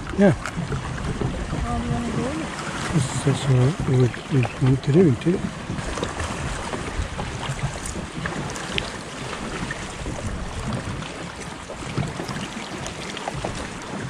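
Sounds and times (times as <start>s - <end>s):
small splashes: 0.0s - 14.0s
water lapping against a kayak: 0.0s - 14.0s
wind rumbling on microphone: 0.0s - 14.0s.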